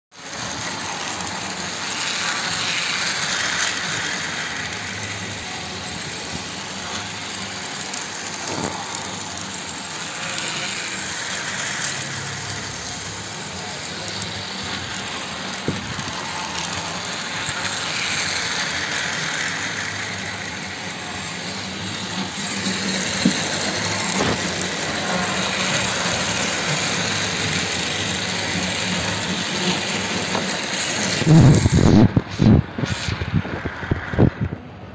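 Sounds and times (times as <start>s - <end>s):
toy train motor whirring: 0.2s - 34.6s
wheels rattling on track: 0.2s - 34.9s.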